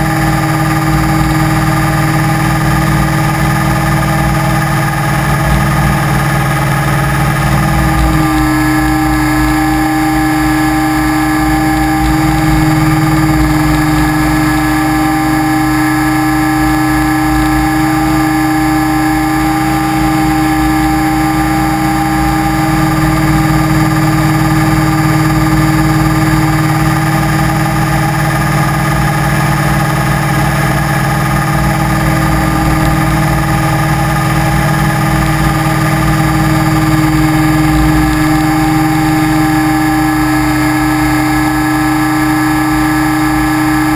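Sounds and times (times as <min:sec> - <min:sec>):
model aircraft motor and propeller drone: 0:00.0 - 0:43.9.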